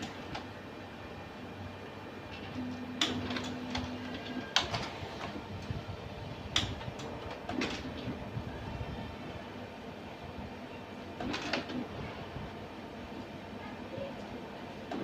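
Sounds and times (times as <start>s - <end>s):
printer motor hum: 0.0s - 15.0s.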